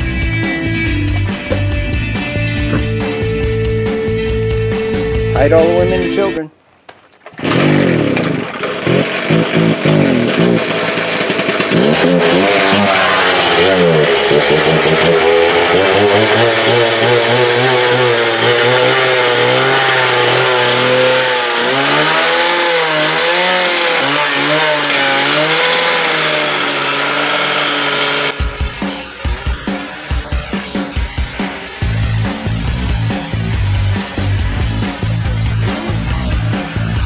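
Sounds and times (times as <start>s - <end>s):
angle grinder cutting steel: 7.3s - 37.0s.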